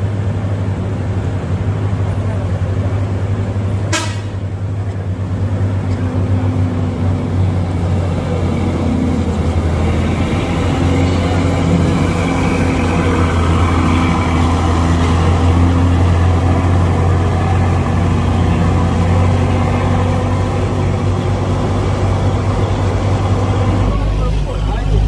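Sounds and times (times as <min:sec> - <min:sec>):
diesel engines droning: 0:00.0 - 0:25.0.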